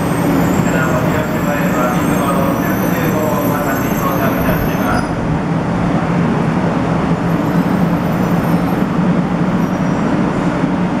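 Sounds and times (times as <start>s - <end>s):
train low hum: 0.0s - 11.0s.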